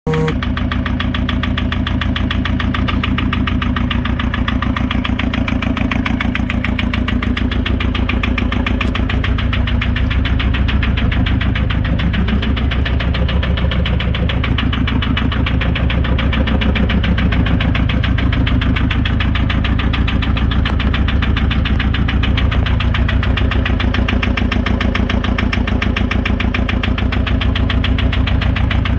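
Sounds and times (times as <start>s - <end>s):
diesel engine knocking: 0.0s - 28.9s.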